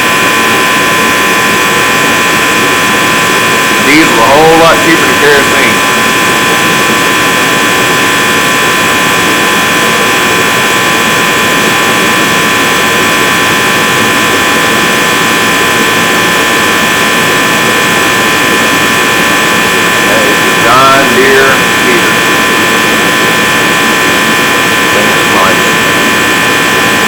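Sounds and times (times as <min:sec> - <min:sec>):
heater fan rushing air: 0:00.0 - 0:27.0
steady high whine: 0:00.0 - 0:27.0.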